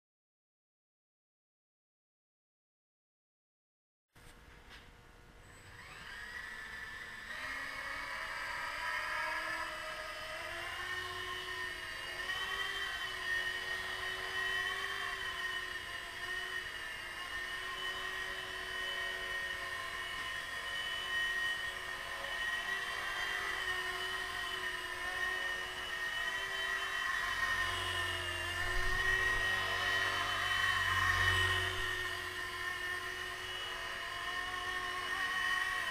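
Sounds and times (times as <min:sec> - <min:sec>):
rc helicopter motor whine: 0:05.4 - 0:35.9.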